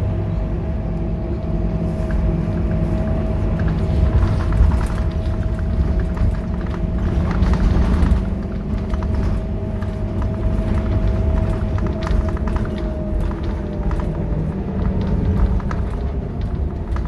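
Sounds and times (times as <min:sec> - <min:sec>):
bus diesel engine rumble: 0:00.0 - 0:17.0
engine whine: 0:00.0 - 0:17.0
light rattles: 0:01.9 - 0:17.0.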